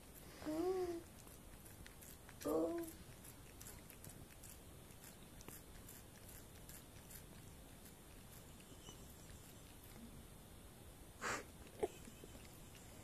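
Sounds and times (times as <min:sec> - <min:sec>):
cat licking: 0:00.0 - 0:10.1, 0:11.6 - 0:13.0.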